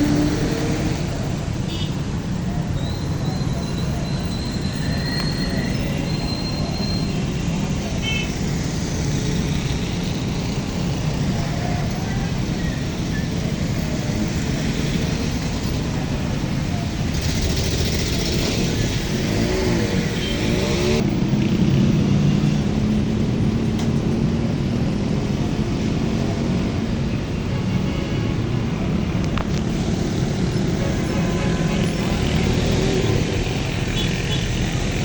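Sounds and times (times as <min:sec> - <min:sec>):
vehicle engines in traffic: 0:00.0 - 0:35.0.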